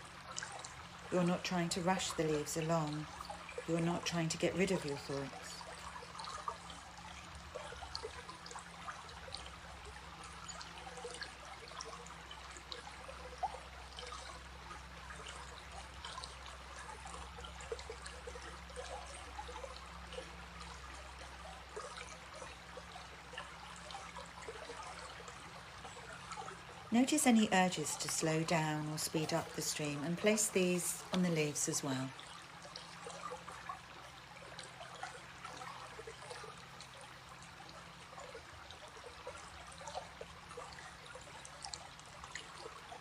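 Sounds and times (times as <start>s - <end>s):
small splashes: 0.0s - 43.0s
water trickling and babbling: 0.0s - 43.0s.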